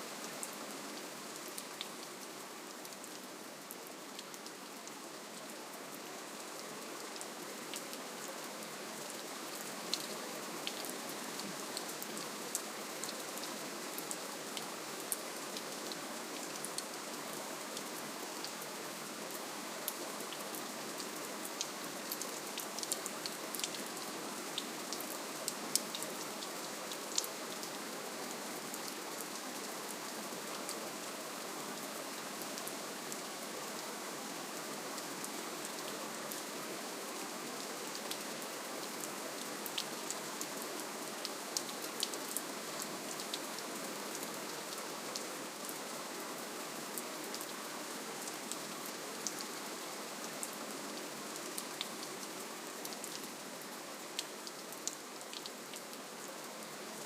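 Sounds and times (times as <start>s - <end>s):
gentle rainfall: 0.0s - 57.0s.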